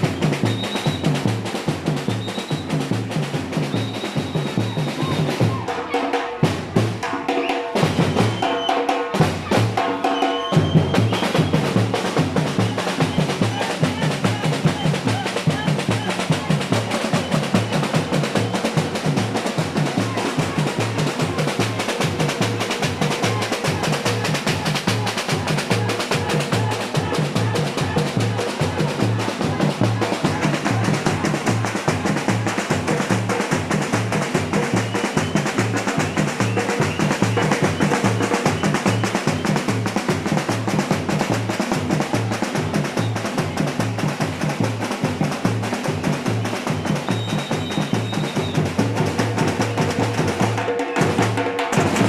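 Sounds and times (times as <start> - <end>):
samba drum ensemble: 0.0 - 52.0.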